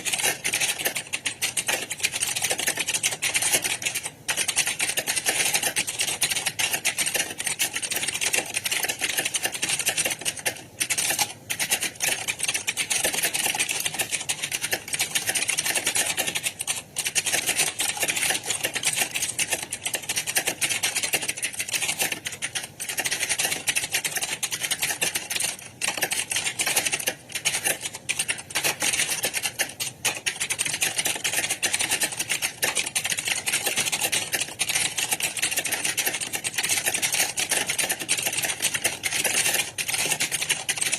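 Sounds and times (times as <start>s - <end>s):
fast keyboard typing: 0.0s - 40.9s.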